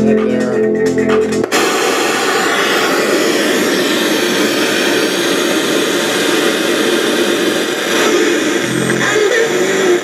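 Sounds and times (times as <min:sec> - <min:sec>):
radio static hiss: 0:01.4 - 0:10.0.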